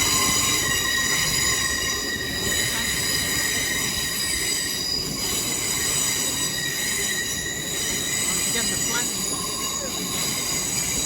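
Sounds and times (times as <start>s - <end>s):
train low rumble: 0.0s - 11.0s
train wheels squealing: 0.0s - 11.0s.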